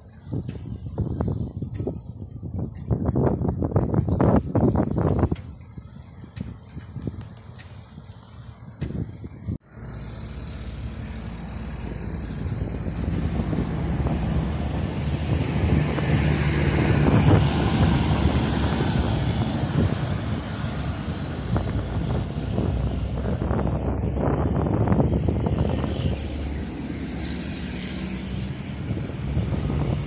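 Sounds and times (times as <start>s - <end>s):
wind noise on microphone: 0.0s - 9.7s, 11.3s - 30.0s
vehicle engine running: 5.1s - 30.0s.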